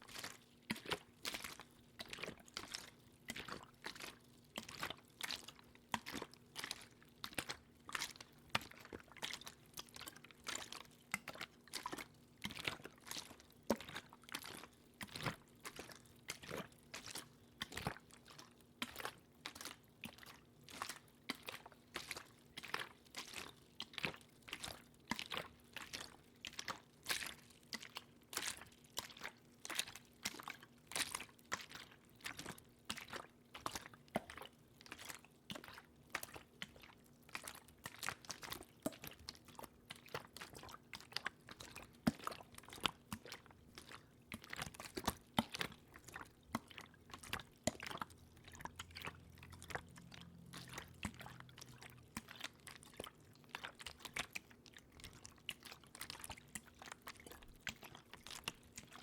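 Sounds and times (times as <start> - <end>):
water drips and splashes: 0.0 - 59.0.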